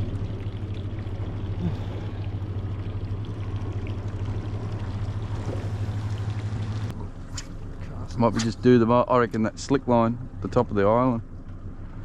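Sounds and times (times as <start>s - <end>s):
boat motor droning: 0.0s - 12.0s
water sloshing against hull: 0.0s - 12.0s.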